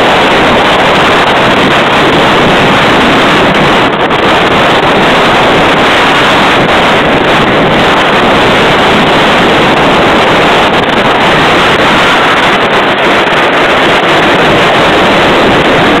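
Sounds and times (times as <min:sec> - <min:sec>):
roller coaster rumble: 0:00.0 - 0:16.0
wind noise on camera: 0:00.0 - 0:16.0.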